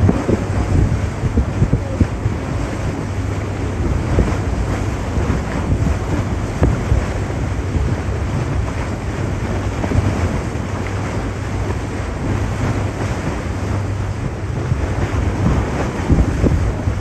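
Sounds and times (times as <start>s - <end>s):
river water lapping: 0.0s - 17.0s
wind buffeting microphone: 0.0s - 17.0s.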